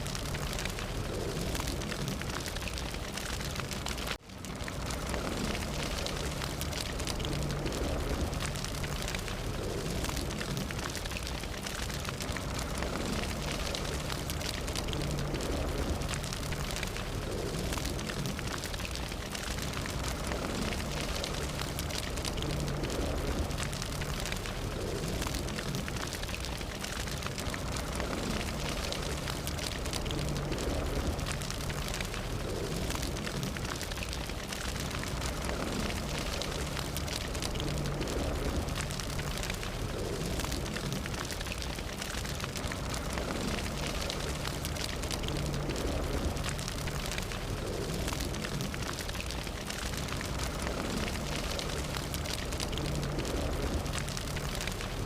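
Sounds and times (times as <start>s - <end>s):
fire crackling: 0.0s - 55.0s
low fire rumble: 0.0s - 55.0s.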